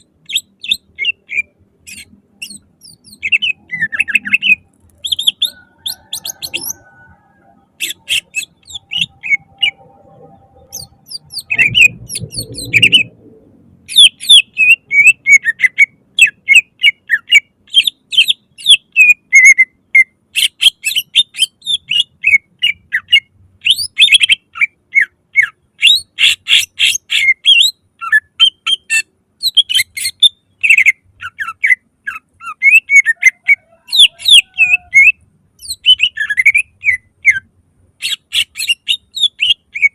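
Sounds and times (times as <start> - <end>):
bird singing sharp chirping notes: 0.0 - 39.9.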